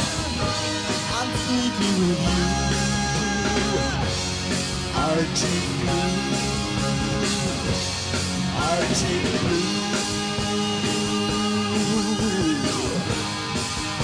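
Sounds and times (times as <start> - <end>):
rock music: 0.0 - 14.0
sliding lead guitar line: 0.0 - 14.0.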